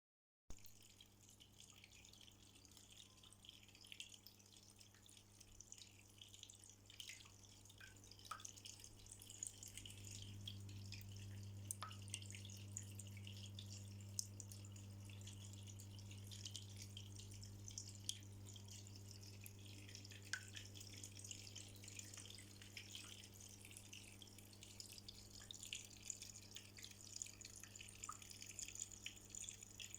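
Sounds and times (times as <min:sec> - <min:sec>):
low steady hum: 0:00.5 - 0:29.9
water trickling with drips: 0:00.5 - 0:29.9.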